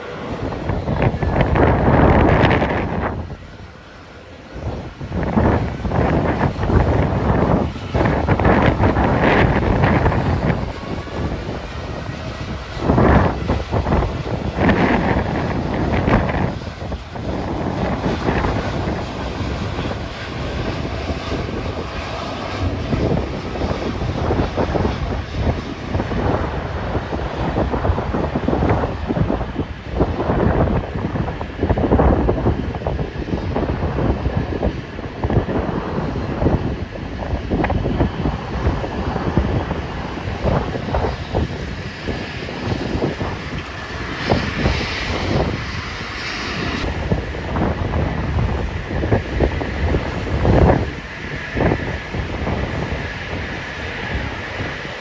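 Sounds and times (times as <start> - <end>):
jet engines rushing: 0.0 - 55.0
wind buffeting microphone: 0.0 - 55.0.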